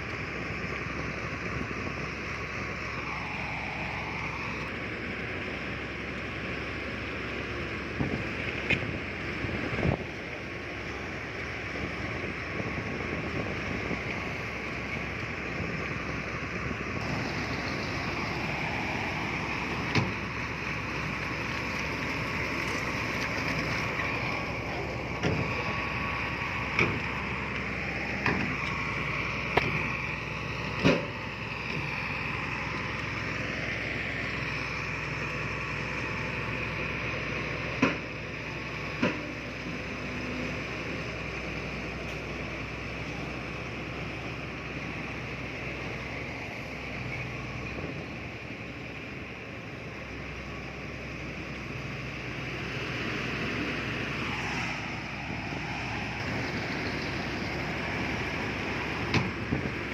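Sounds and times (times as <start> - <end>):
heavy machinery running: 0.0 - 59.9.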